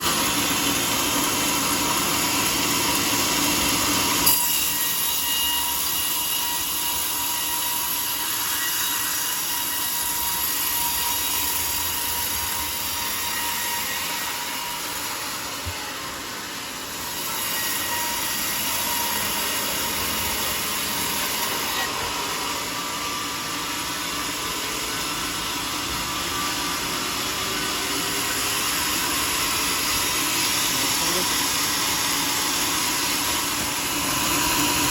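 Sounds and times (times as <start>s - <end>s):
saw cutting through log: 0.0s - 34.9s.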